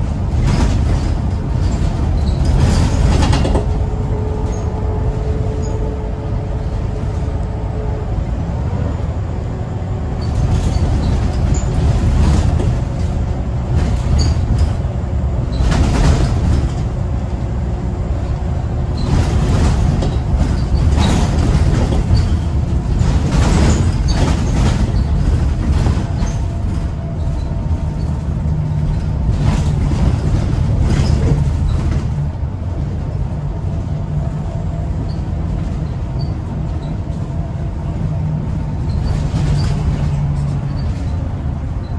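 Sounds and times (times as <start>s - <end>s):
body rattles and knocks: 0.0s - 4.5s, 10.2s - 41.9s
bus engine rumble: 0.0s - 41.9s
road noise: 0.0s - 41.9s.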